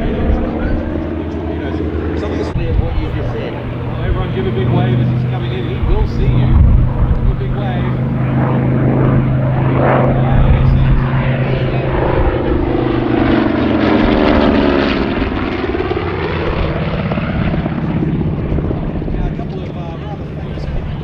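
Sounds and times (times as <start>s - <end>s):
propeller aircraft droning overhead: 0.0s - 21.0s.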